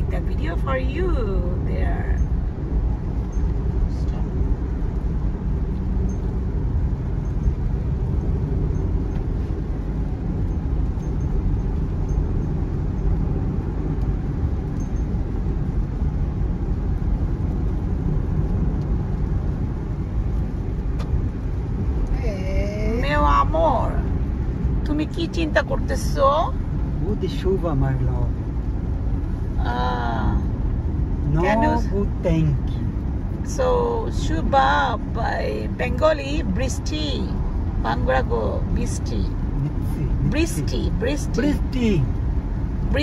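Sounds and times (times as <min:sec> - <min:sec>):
car cruising on wet road: 0:00.0 - 0:43.0.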